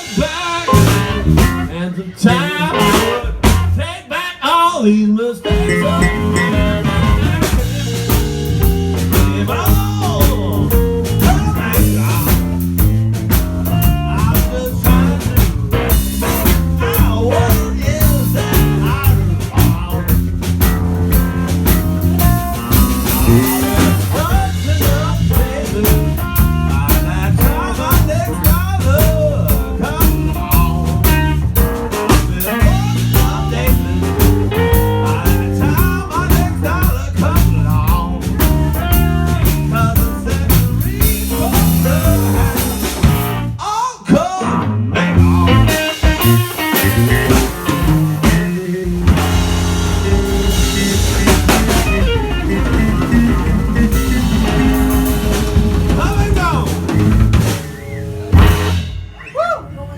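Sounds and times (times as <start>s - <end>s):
live blues band playing: 0.0s - 4.0s, 5.4s - 59.5s.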